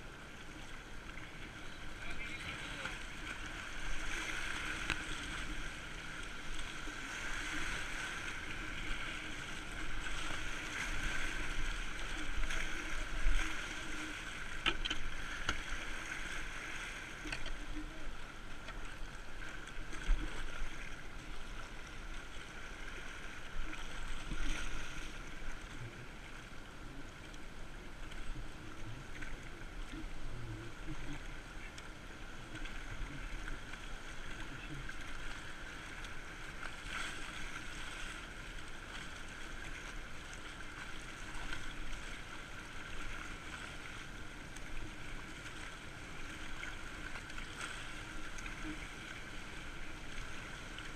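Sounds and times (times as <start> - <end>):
paddle splashes: 0.0 - 50.9
river current rushing: 0.0 - 50.9.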